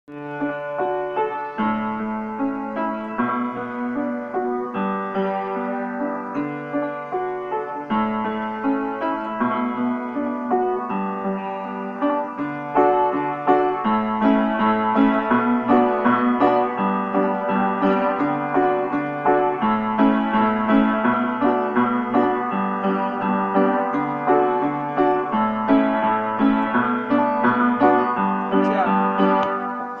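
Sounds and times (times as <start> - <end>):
upright piano playing: 0.1 - 30.0.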